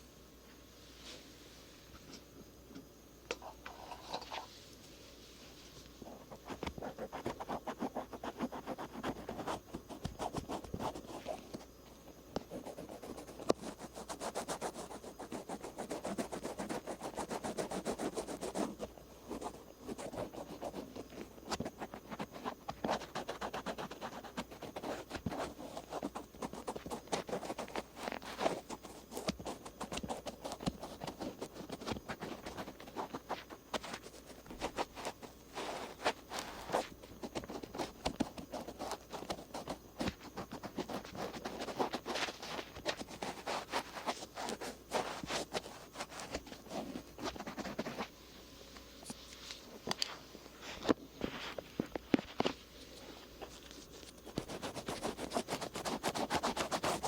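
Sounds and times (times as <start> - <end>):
cotton swab scratching ear: 6.2 - 11.5, 12.4 - 48.1, 51.4 - 57.0.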